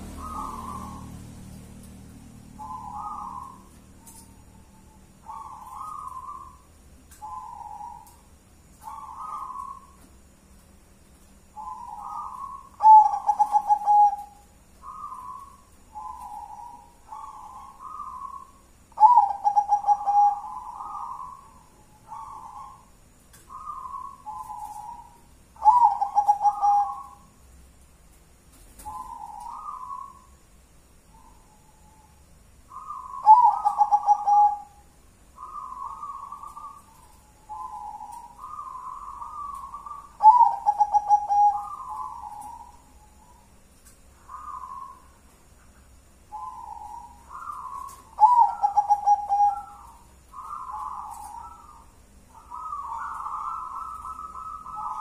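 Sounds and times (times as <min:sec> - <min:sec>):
dove cooing: 0:00.0 - 0:10.1, 0:11.5 - 0:27.4, 0:28.8 - 0:30.4, 0:31.1 - 0:43.6, 0:44.2 - 0:45.2, 0:46.2 - 0:55.0
pulsing dove song: 0:00.0 - 0:55.0.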